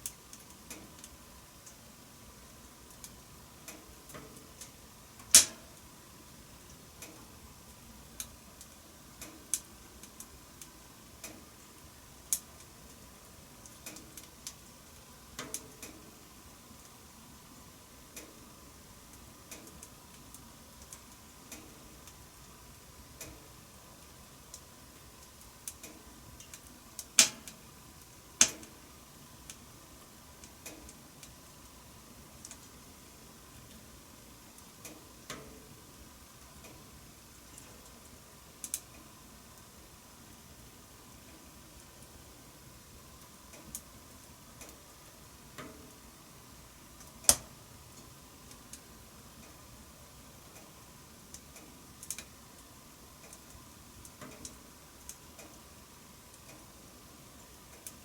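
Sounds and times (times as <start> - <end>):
wood fire crackling and popping: 0.0 - 6.0, 6.6 - 49.7, 50.3 - 56.7, 57.4 - 58.0.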